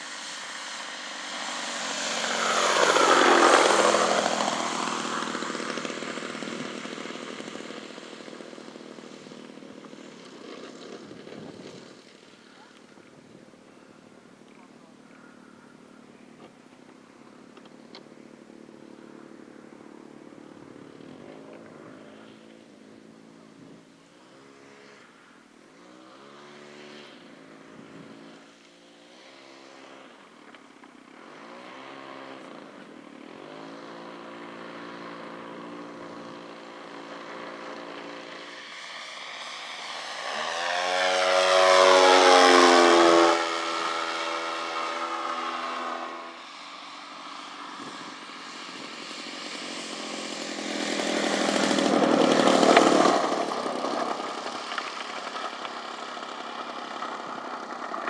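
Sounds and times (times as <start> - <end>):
model airplane engines running: 0.0 - 58.0
model plane passing close: 0.0 - 58.0.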